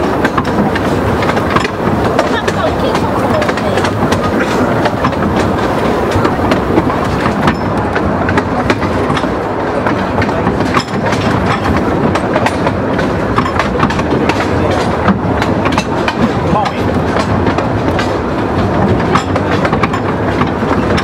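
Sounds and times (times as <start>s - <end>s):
train running noise: 0.0s - 21.0s
wheels clicking on rails: 0.0s - 21.0s.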